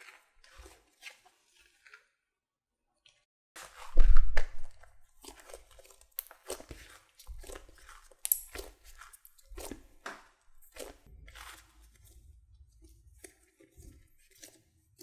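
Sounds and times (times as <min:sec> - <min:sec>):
bread dough squishing: 0:00.0 - 0:02.4, 0:03.1 - 0:15.0.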